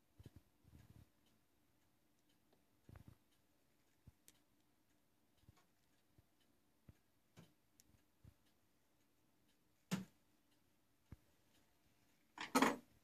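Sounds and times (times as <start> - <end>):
faint ticks and clicks: 0.0 - 13.0.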